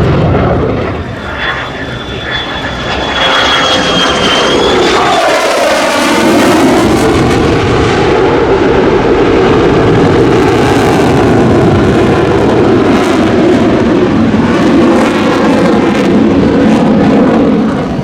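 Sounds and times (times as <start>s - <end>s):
jet engine roar in flight: 0.0s - 18.0s.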